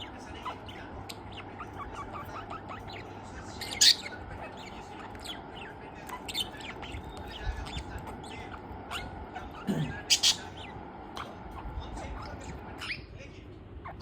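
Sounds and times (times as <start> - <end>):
budgerigar chirping and squawking: 0.0 - 13.2, 13.8 - 14.0
faint low hum: 0.0 - 14.0.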